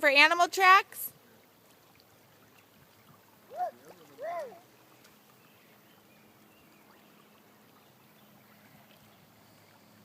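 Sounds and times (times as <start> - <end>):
faint river water flowing: 0.0 - 10.0.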